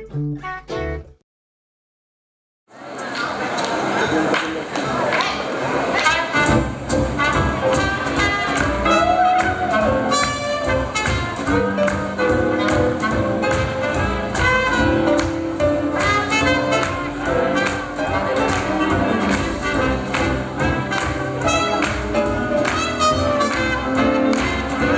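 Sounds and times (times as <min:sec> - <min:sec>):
swing jazz band playing: 0:00.0 - 0:01.0, 0:05.7 - 0:24.9.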